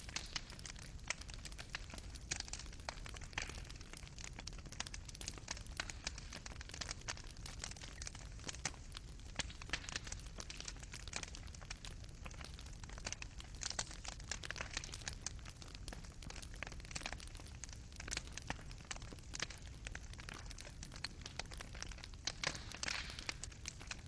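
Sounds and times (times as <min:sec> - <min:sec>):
charcoal fire popping: 0:00.0 - 0:24.0
low fire rumble: 0:00.0 - 0:24.0.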